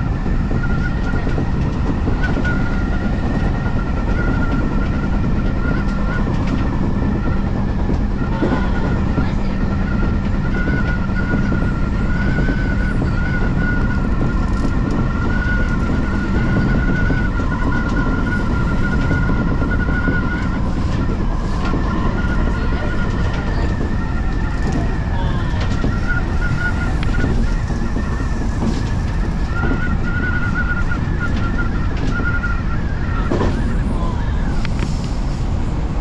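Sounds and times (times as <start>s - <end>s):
high-pitched train whine: 0.0s - 36.0s
train rumble: 0.0s - 36.0s.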